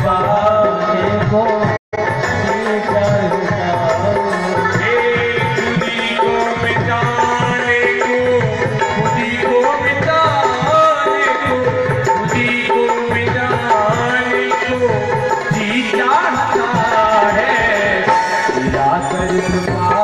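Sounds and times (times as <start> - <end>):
tabla rhythm: 0.0 - 20.0.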